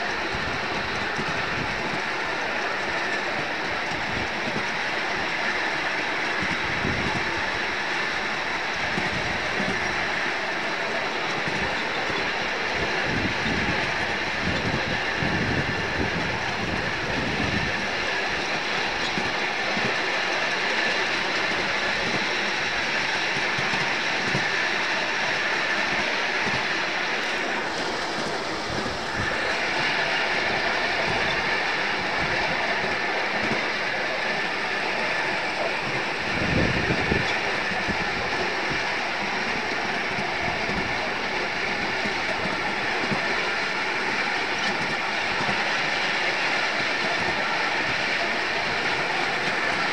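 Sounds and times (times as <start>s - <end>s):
miniature steam train running: 0.0s - 49.9s
wheels clicking on rails: 0.0s - 49.9s.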